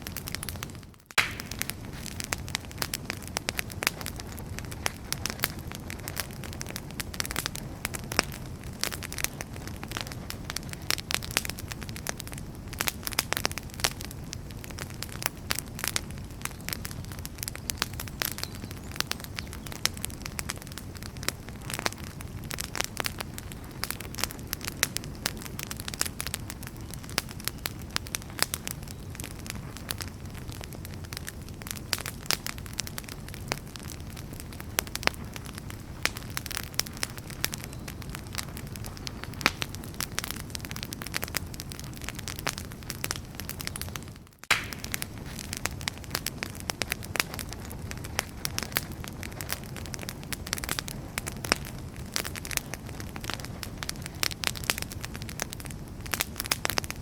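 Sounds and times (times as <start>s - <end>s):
fire burning: 0.0s - 57.0s
firewood crackling and popping: 0.0s - 57.0s.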